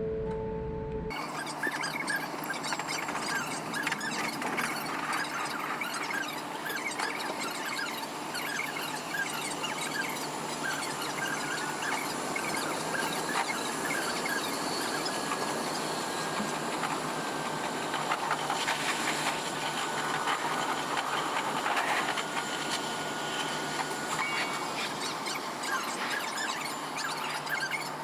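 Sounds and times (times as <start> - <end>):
squealing wheels: 1.1 - 28.0.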